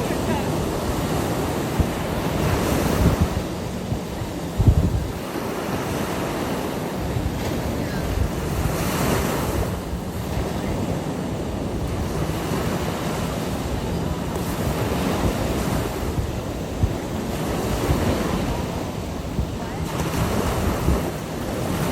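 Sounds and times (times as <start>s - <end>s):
ocean waves on beach: 0.0s - 21.9s
wind buffeting microphone: 0.0s - 21.9s.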